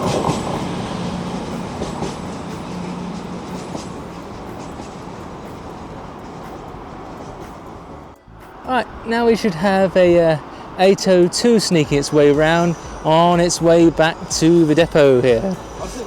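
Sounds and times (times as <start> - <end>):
diesel train engine hum: 0.0 - 16.0
rail noise: 0.0 - 16.0.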